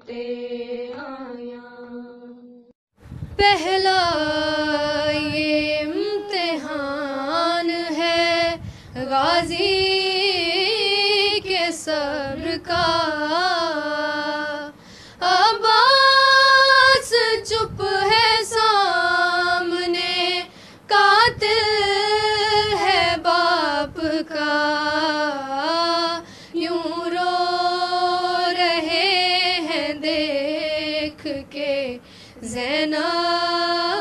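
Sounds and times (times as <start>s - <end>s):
women singing a lament: 0.0s - 2.7s, 3.4s - 34.0s.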